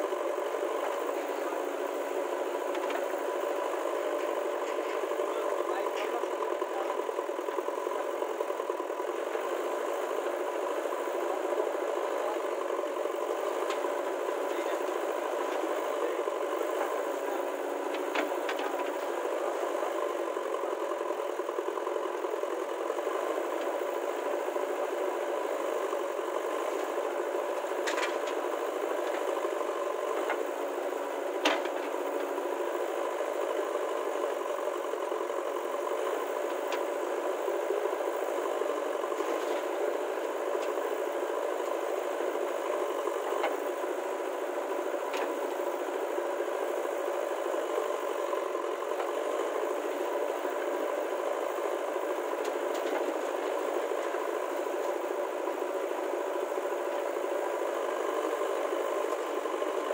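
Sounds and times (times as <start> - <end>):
diesel engine running with rattle: 0.0 - 59.9.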